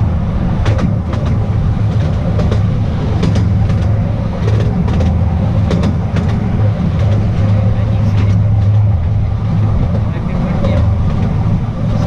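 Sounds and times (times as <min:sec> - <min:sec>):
train rumbling along track: 0:00.0 - 0:12.0
wheels clicking on rails: 0:00.0 - 0:12.0.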